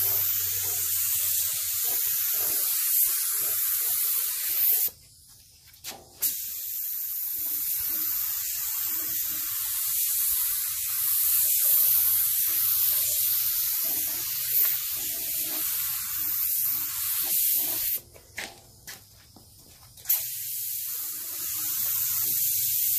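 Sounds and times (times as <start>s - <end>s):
paint spray gun hissing: 0.0s - 18.0s, 20.0s - 22.9s.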